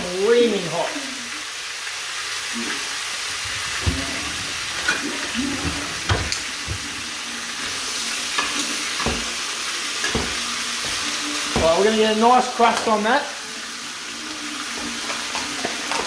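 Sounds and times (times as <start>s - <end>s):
steak sizzling in skillet: 0.0s - 16.0s.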